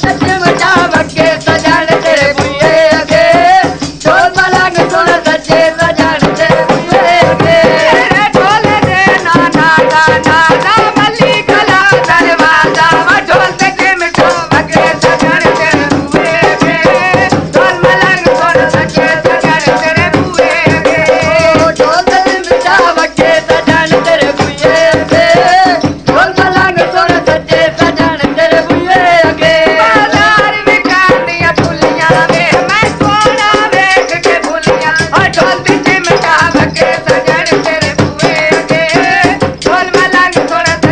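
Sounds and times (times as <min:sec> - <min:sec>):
fast steady drum: 0:00.0 - 0:40.9
jingling metal tongs percussion: 0:00.0 - 0:40.9
person singing folk song: 0:00.0 - 0:40.9.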